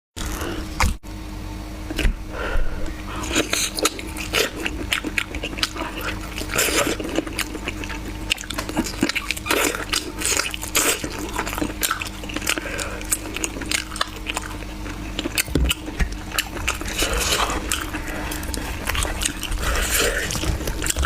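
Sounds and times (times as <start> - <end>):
person chewing chicken: 3.1 - 21.0.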